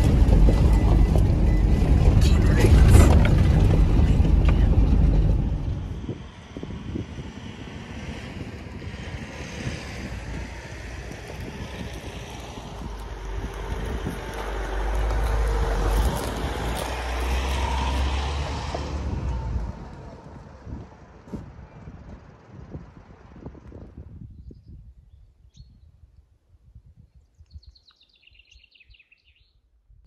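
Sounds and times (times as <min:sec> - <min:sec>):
wind on microphone: 0:00.0 - 0:29.4
vehicle engine and tyre rumble: 0:00.0 - 0:30.0.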